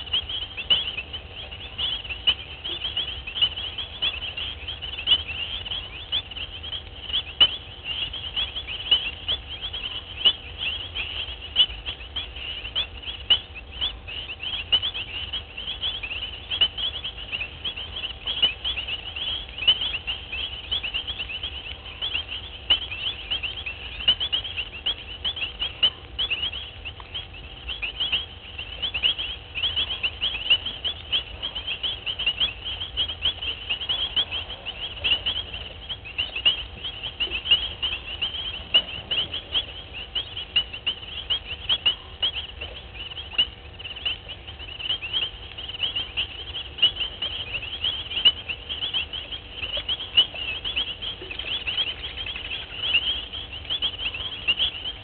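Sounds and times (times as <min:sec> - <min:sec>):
high-pitched night chirps: 0:00.0 - 0:55.0.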